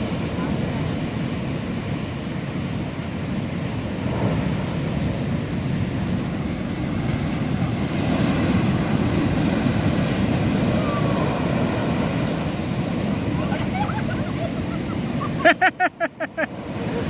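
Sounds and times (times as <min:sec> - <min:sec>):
wind on microphone: 0:00.0 - 0:15.4
surf rushing over shore: 0:00.0 - 0:17.0.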